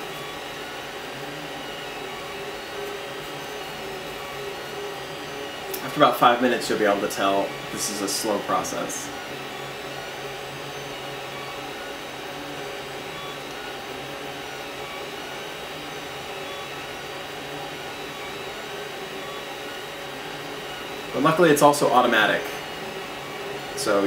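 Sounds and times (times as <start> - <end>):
cooling fans whirring: 0.0 - 24.0
faint motor tones: 0.0 - 24.0.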